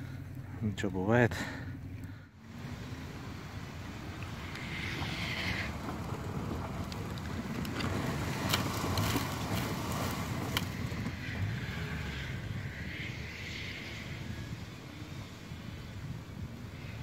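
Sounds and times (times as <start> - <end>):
vehicle engines under load: 0.0 - 17.0
wheels spinning in snow: 0.0 - 17.0.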